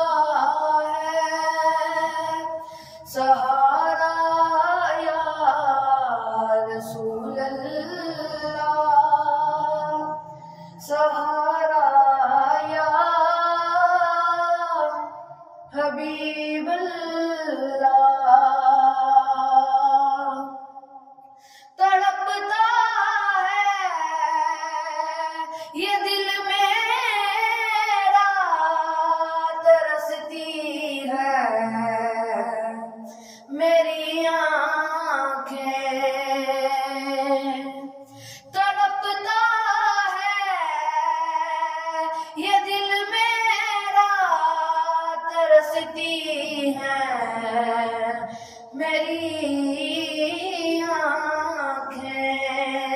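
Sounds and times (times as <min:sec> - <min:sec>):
solo high voice singing devotional song: 0:00.0 - 0:52.9.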